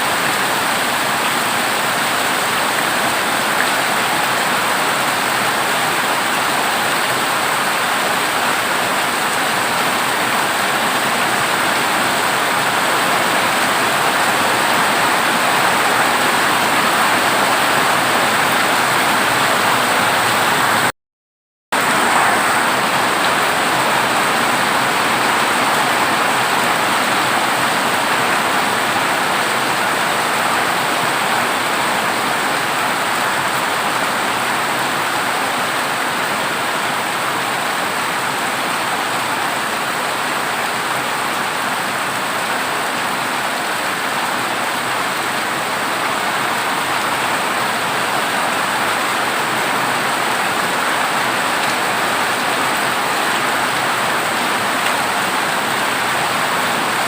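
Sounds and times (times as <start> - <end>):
heavy rain on a metal roof: 0.0 - 20.9, 21.8 - 57.0.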